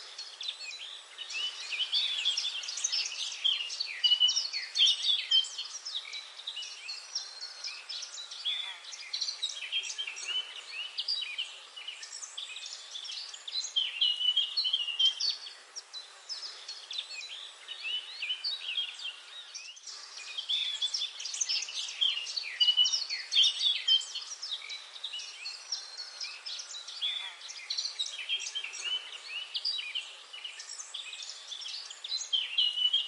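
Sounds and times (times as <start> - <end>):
small birds chirping and trilling: 0.0 - 33.0.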